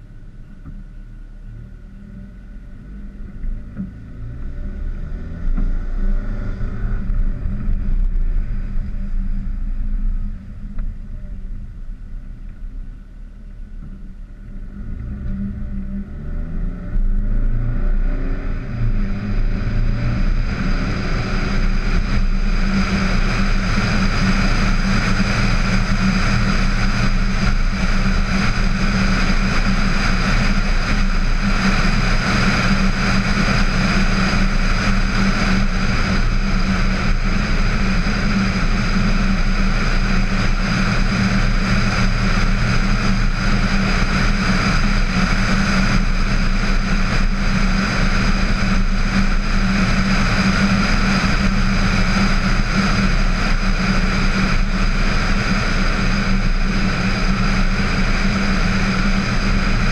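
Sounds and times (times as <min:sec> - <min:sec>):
car engine: 0:00.0 - 0:59.9
wind and road noise: 0:00.0 - 0:59.9.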